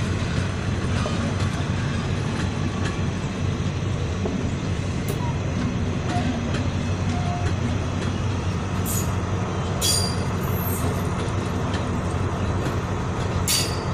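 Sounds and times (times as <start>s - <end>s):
train coaches rumbling on rails: 0.0s - 13.9s.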